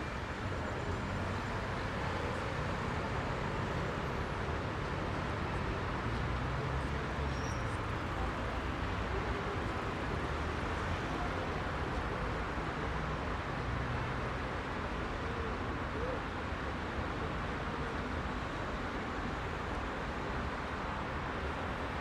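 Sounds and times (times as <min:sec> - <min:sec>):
heavy road traffic: 0:00.0 - 0:22.0.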